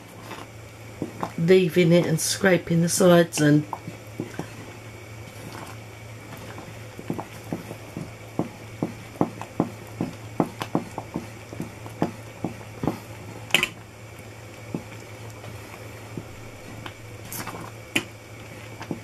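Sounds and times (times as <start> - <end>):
thick mixture boiling in a pan: 0.0 - 19.0.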